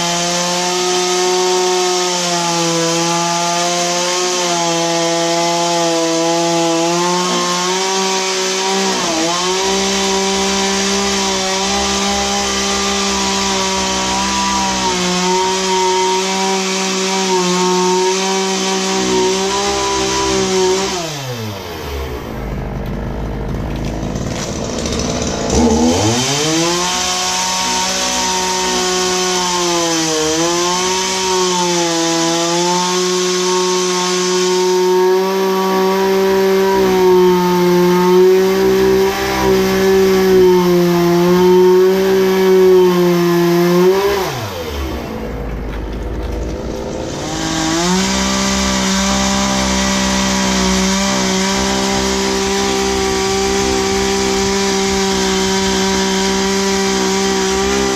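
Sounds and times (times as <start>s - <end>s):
chainsaw cutting a tree: 0.0s - 57.9s.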